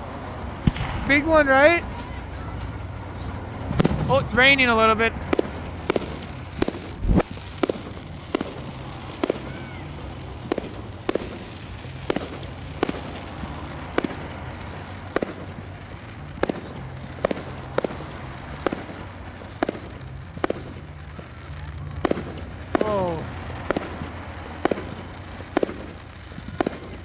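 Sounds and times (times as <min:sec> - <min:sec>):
fireworks bangs: 0:00.0 - 0:27.0
heavy firework boom: 0:00.0 - 0:27.0.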